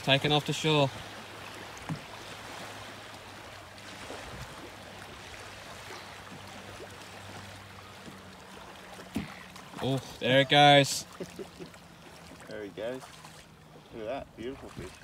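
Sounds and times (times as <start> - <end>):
water lapping and trickling: 0.0 - 15.0.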